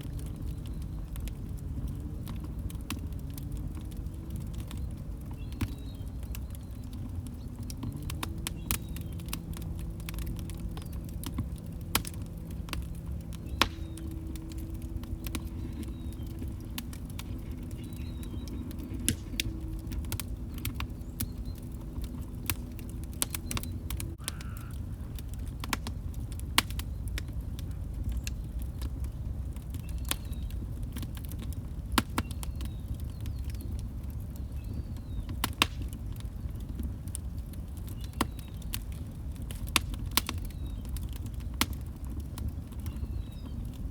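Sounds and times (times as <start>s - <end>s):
log fire crackling and popping: 0.0s - 43.9s.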